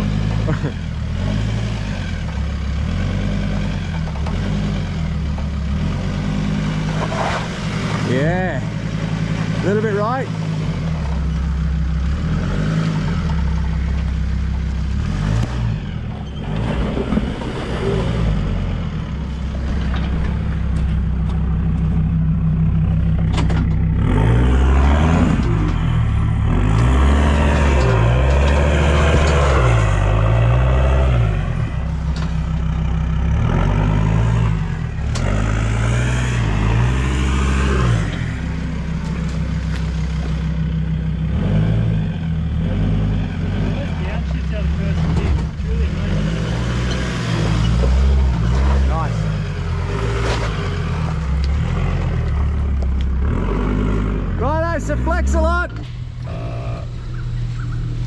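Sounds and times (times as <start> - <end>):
engine revving under load: 0.0 - 58.0.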